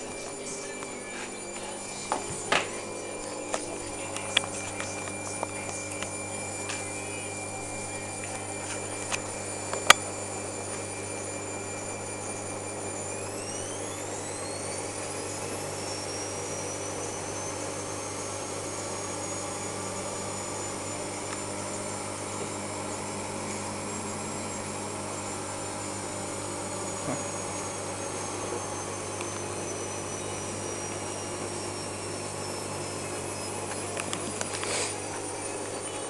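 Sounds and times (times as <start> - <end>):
washing machine humming and whining: 0.0 - 36.0.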